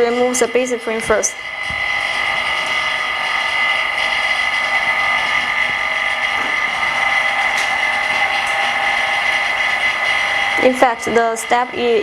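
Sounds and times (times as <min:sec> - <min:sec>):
small motor tool whining: 0:00.0 - 0:12.0.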